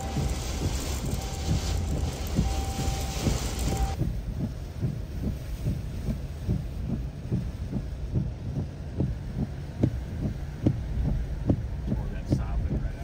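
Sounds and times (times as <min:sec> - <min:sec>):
soft regular thumps: 0:00.0 - 0:13.0.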